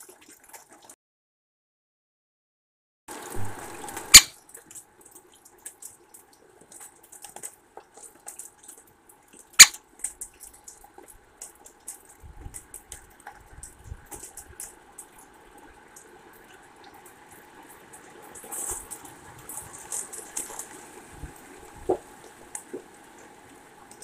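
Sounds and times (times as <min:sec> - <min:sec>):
raindrops dripping: 0:03.1 - 0:24.0.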